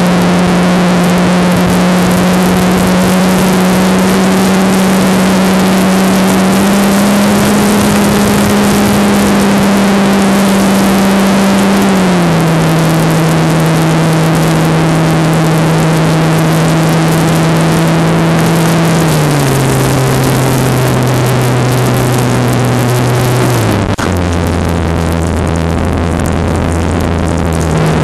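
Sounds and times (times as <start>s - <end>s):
model plane engine running: 0.0s - 28.0s.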